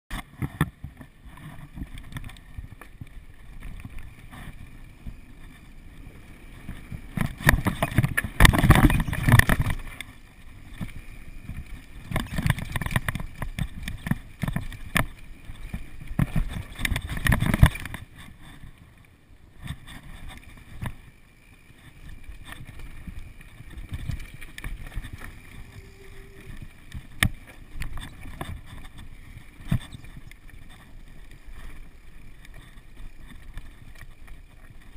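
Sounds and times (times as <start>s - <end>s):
mountain bike rattling: 0.1s - 34.9s.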